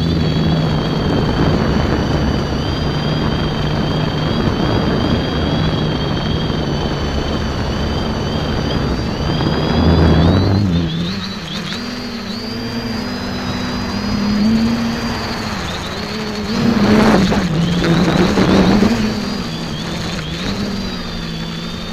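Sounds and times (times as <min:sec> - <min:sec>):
drone motors whining: 0:00.0 - 0:21.9
propeller wash rushing: 0:00.0 - 0:21.9.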